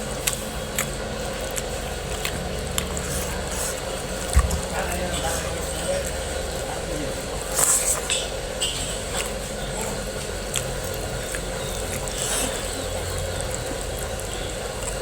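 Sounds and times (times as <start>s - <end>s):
clicks and smacks of eating: 0.0s - 15.0s
low hum of machinery: 0.0s - 15.0s.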